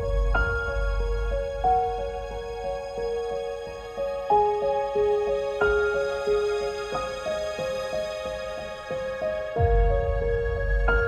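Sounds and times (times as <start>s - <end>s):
slow sustained background music: 0.0s - 11.0s.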